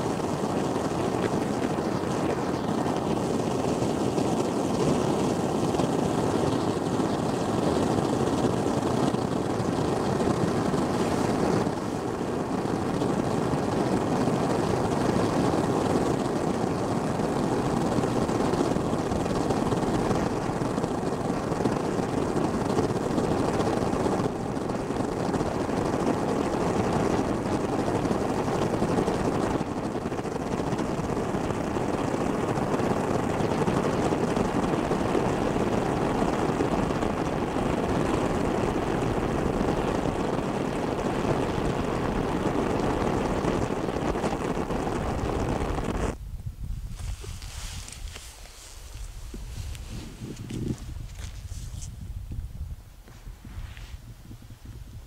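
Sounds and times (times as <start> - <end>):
gas burning with rushing roar: 0.0 - 55.0.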